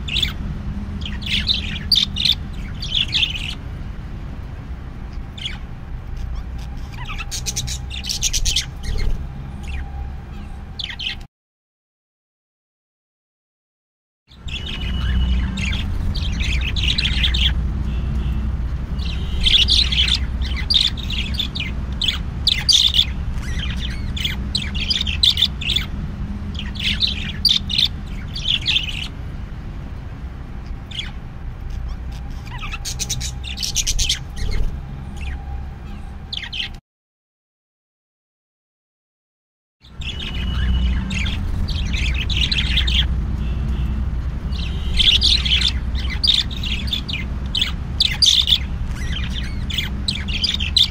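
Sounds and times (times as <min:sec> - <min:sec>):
budgerigars chirping: 0:00.0 - 0:00.4, 0:01.0 - 0:03.7, 0:05.1 - 0:11.3, 0:14.4 - 0:29.2, 0:30.6 - 0:36.8, 0:39.9 - 0:50.9.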